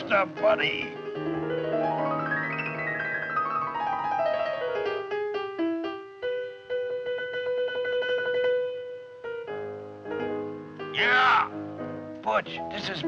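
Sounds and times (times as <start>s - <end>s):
fast piano playing: 0.0s - 13.0s.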